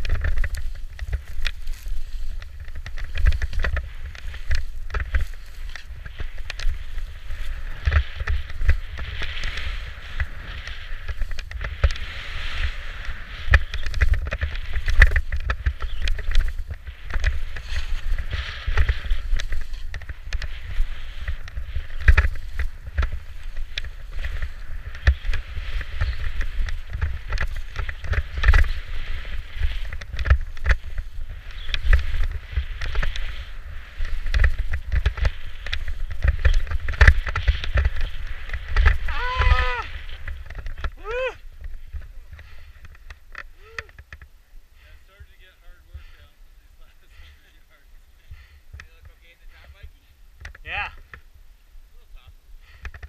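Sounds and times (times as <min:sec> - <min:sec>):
skis knocking over bumps: 0:00.0 - 0:44.3
skis scraping over snow: 0:00.0 - 0:51.3
wind rumble on microphone: 0:00.0 - 0:53.0.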